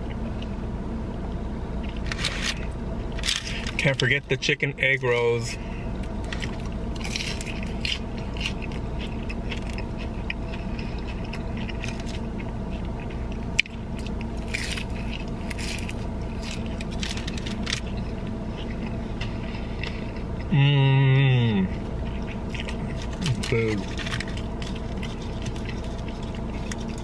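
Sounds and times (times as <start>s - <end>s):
steady low hum: 0.0s - 27.0s
biting and chewing crunchy food: 1.7s - 20.6s, 21.2s - 27.0s.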